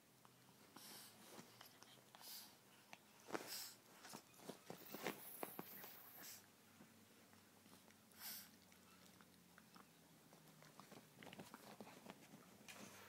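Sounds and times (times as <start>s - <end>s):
dogs mouthing and nibbling: 0.2s - 6.4s, 7.1s - 13.0s.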